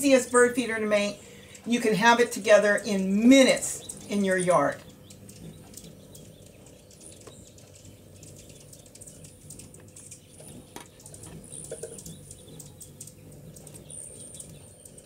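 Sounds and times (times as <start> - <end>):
faint steady hum: 0.0 - 15.0
faint high bird chirps: 2.8 - 15.0.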